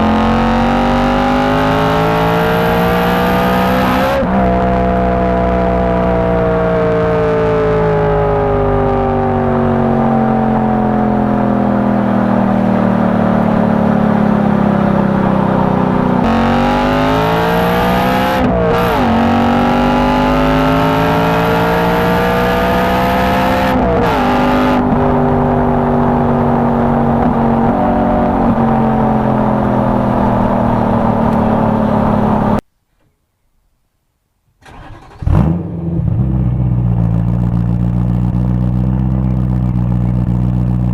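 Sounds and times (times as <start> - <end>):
car engine accelerating: 0.0 - 32.6, 34.6 - 40.9
engine revving: 0.0 - 32.6, 34.6 - 40.9.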